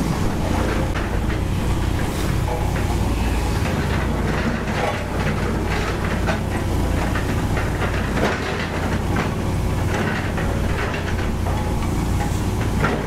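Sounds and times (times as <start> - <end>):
diesel engine drone: 0.0 - 13.0
metallic clatter and rattling: 0.4 - 13.0.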